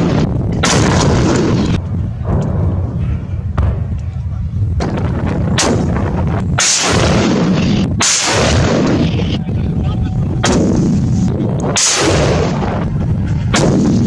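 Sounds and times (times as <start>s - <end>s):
mortars firing with echo: 0.0s - 9.4s, 10.4s - 14.0s.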